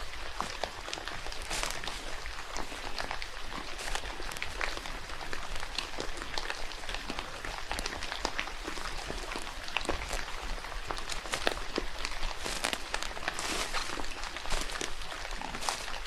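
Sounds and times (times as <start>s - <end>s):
raindrops pattering: 0.0s - 16.0s.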